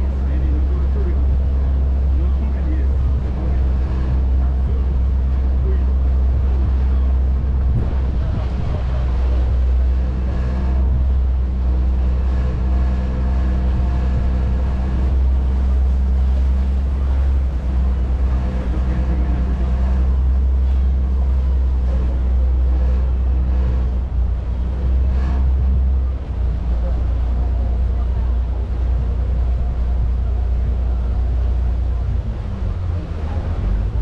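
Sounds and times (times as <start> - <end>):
boat diesel engine droning: 0.0 - 34.0.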